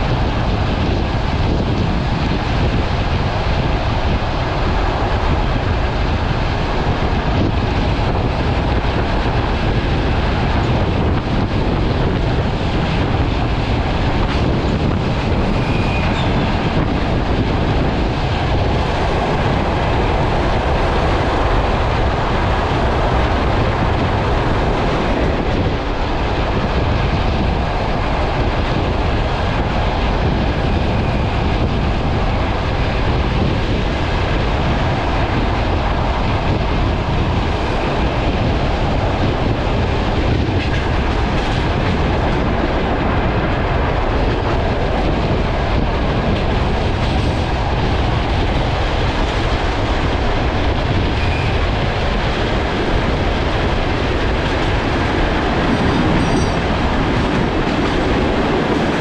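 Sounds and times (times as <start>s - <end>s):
passing train: 0.0s - 59.0s
train wheels rumbling on rails: 0.0s - 59.0s.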